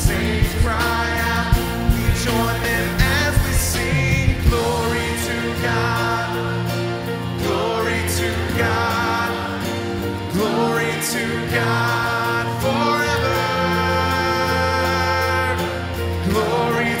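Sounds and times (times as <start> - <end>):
instrumental accompaniment: 0.0 - 17.0
voices singing a hymn: 0.0 - 17.0.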